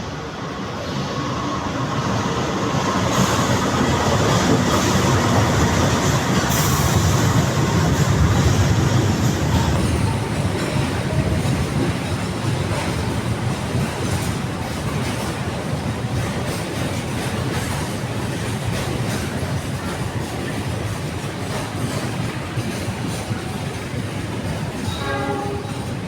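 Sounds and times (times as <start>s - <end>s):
train rumbling past: 0.0s - 26.0s
wheels clicking over rail joints: 3.0s - 26.0s.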